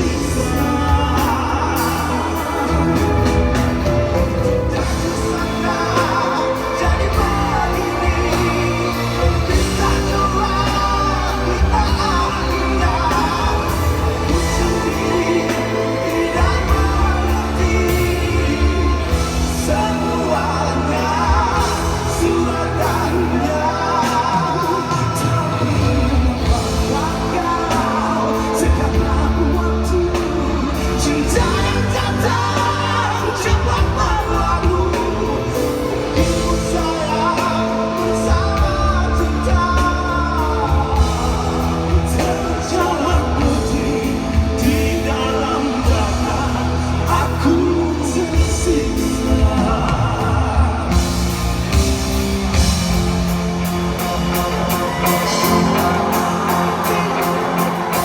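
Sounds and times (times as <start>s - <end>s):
backing band playing: 0.0s - 58.0s
bass line: 0.0s - 58.0s
person singing: 0.0s - 58.0s.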